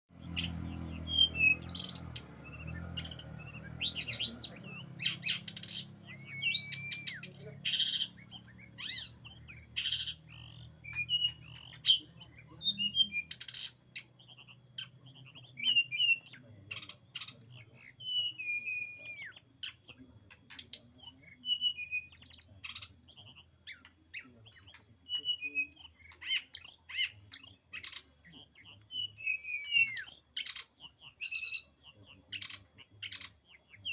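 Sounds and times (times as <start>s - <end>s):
bird singing fast varied song: 0.1s - 33.9s.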